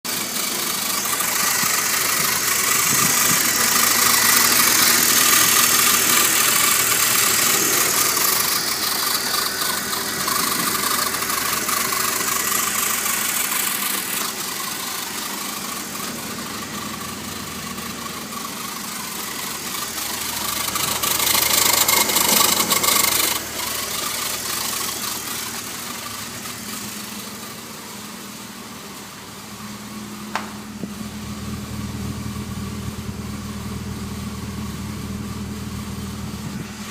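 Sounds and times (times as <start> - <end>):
car engine idling with tapping: 0.0 - 36.9.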